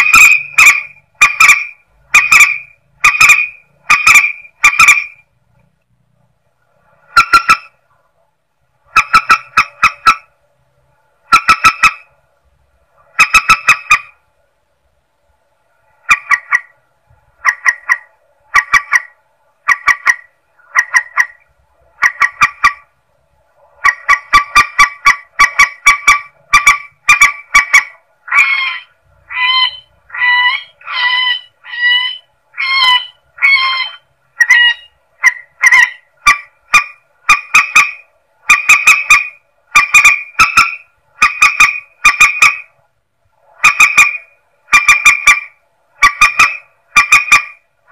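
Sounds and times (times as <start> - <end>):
recorded rail bird calls: 0.0 - 5.4, 6.8 - 10.4, 11.2 - 12.2, 12.9 - 14.3, 15.8 - 23.0, 23.6 - 47.9.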